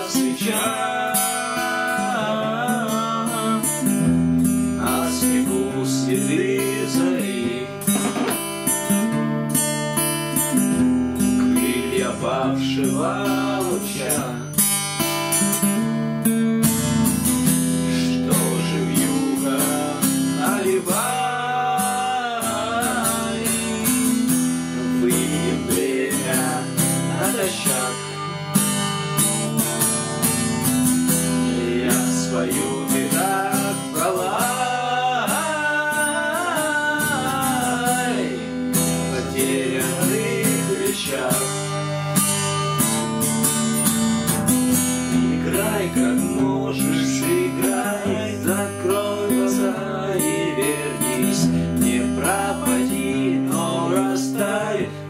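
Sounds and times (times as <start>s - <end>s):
wordless voice humming melody: 0.0s - 8.4s, 17.6s - 43.0s, 44.2s - 55.0s
acoustic guitar strummed: 0.0s - 55.0s.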